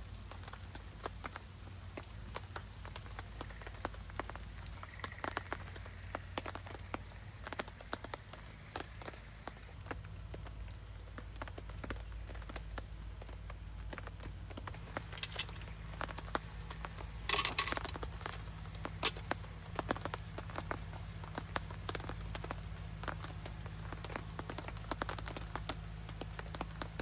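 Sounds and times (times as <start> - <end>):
campfire crackling: 0.0 - 27.0
light rain ticking on a tarp: 0.0 - 27.0.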